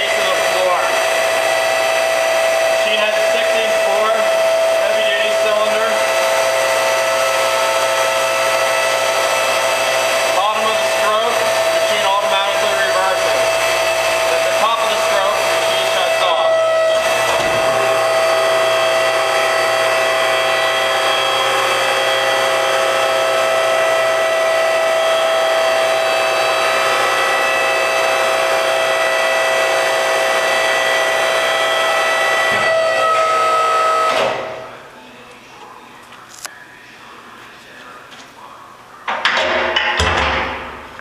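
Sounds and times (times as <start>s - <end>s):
electric motor and pump whining: 0.0s - 34.9s.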